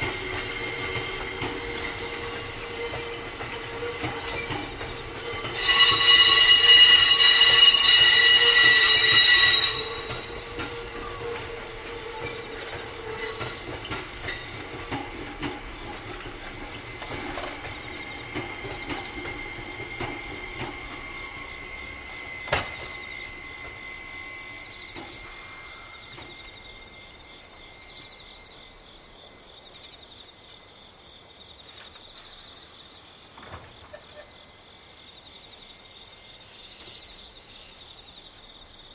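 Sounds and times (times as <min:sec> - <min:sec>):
train rumbling over tracks: 0:00.0 - 0:38.9.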